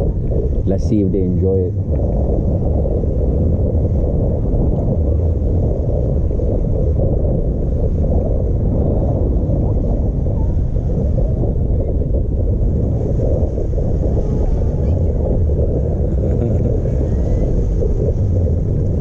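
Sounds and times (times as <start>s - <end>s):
motorboat rumbling: 0.0s - 19.0s
wind buffeting microphone: 0.0s - 19.0s.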